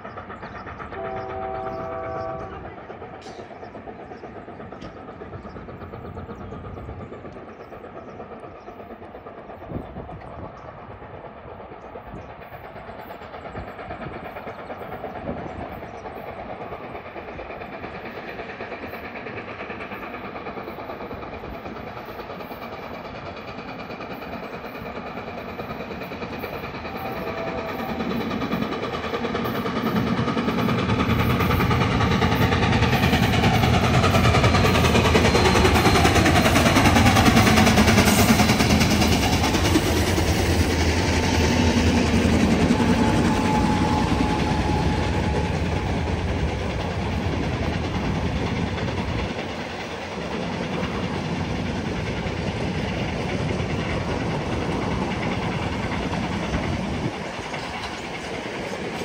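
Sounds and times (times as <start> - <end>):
steam train approaching: 0.0 - 59.0.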